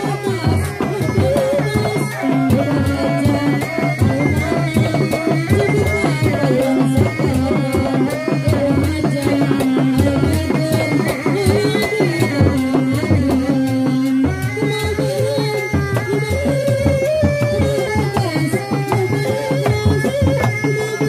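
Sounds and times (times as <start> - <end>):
fast drum rhythm: 0.0 - 21.0.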